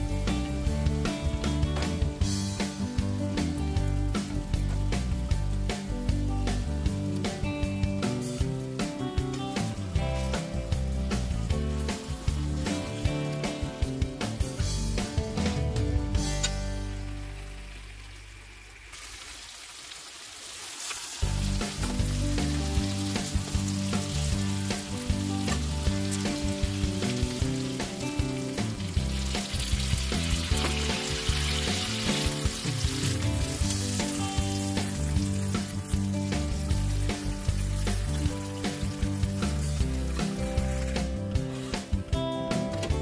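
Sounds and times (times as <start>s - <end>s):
background music: 0.0s - 18.8s, 21.0s - 43.0s
curry sizzling and bubbling: 0.0s - 43.0s.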